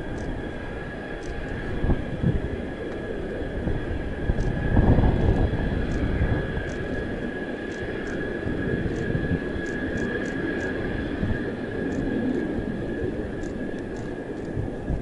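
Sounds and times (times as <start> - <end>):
jet engine whine and rumble: 0.0 - 15.0.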